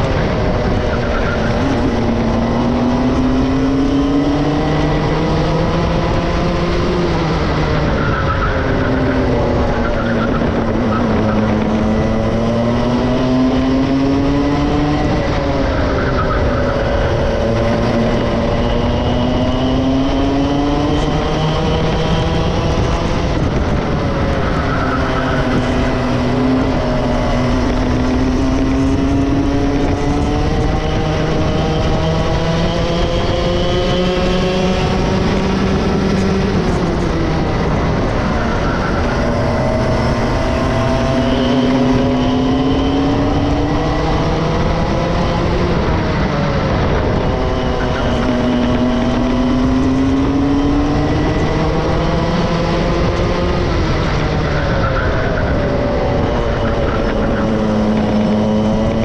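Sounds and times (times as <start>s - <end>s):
two-stroke kart engine revving: 0.0s - 59.0s.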